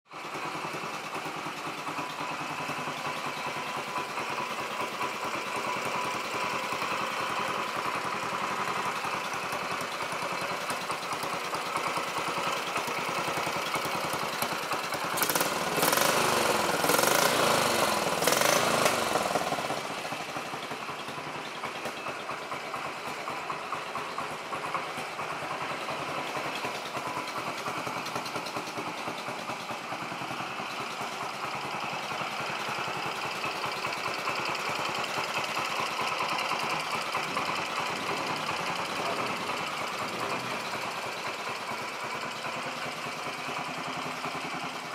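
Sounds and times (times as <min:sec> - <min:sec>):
motorcycle engine idling and revving: 0:00.1 - 0:44.9.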